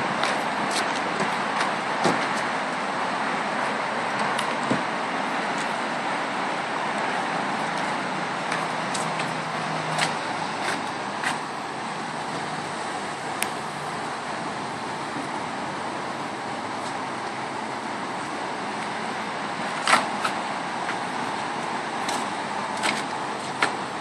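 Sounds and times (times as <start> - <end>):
traffic noise: 0.0 - 24.0.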